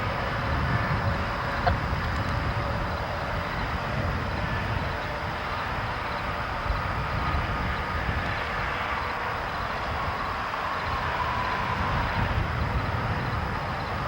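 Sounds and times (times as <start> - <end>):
train rumbling along track: 0.0 - 14.0.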